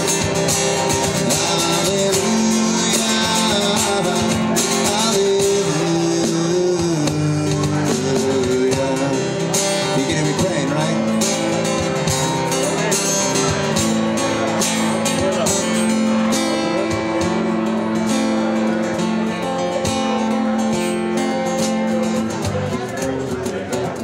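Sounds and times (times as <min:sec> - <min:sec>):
live band playing: 0:00.0 - 0:24.0
strummed acoustic guitar: 0:00.0 - 0:24.0.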